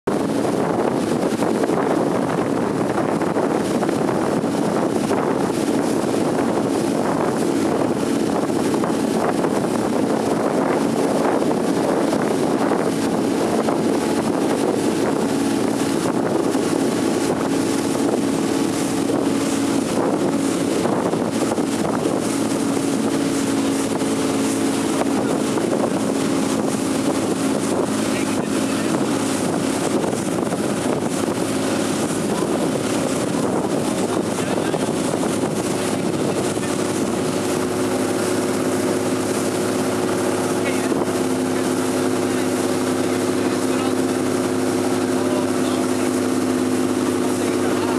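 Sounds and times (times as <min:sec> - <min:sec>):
motorboat engine humming: 0:00.0 - 0:47.9
wind buffeting microphone: 0:00.1 - 0:47.9.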